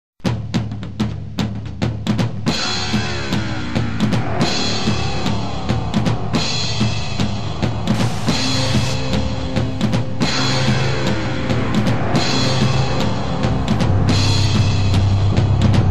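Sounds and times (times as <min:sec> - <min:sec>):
electronic drum beat: 0:00.2 - 0:15.9
hissing cymbal wash: 0:02.5 - 0:15.6.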